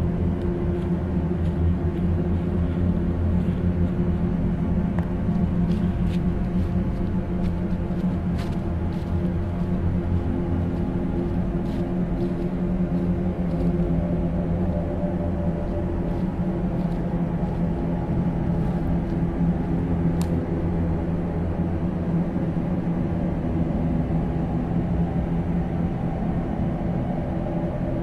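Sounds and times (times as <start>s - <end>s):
dark ambient low rumbling drone: 0.0s - 28.0s.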